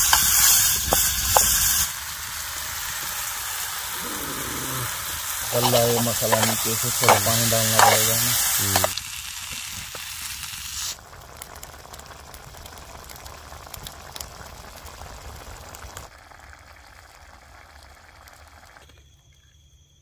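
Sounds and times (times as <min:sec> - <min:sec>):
campfire crackles: 0:00.0 - 0:19.0
food sizzling and bubbling in a pot: 0:00.0 - 0:20.0.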